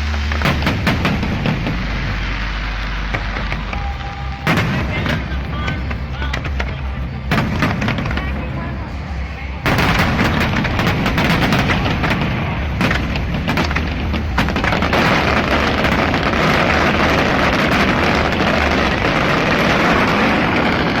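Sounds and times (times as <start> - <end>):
fireworks booms: 0.0 - 9.0, 9.6 - 21.0
fireworks crackling: 0.0 - 21.0.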